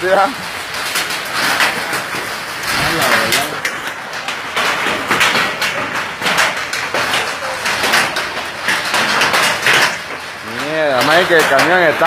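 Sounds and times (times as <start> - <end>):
hailstone impacts: 0.0 - 12.0
torrential rain: 0.0 - 12.0.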